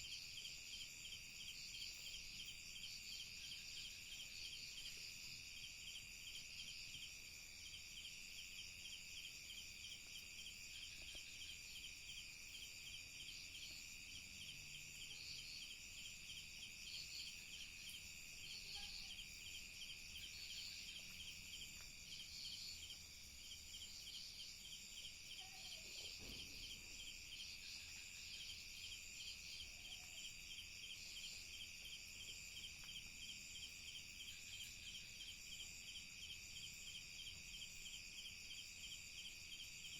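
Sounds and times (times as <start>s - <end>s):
cricket chirps: 0.0s - 39.9s
insects trilling: 0.0s - 39.9s.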